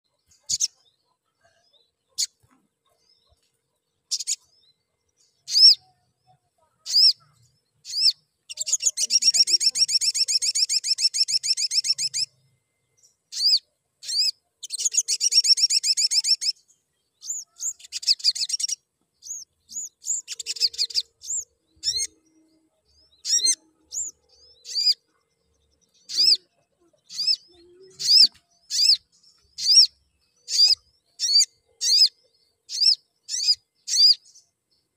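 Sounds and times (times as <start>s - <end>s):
sunbird high chirps: 4.1s - 34.9s.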